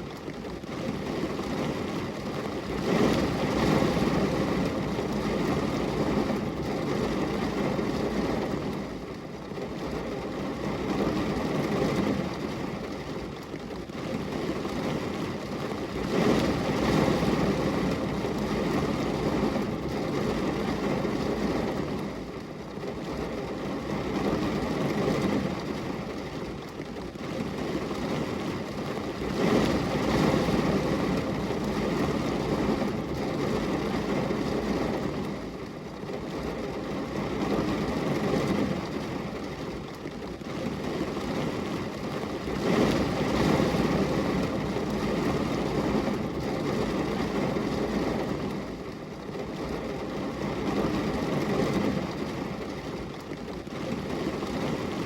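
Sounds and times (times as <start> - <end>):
rain on window glass: 0.0 - 55.0.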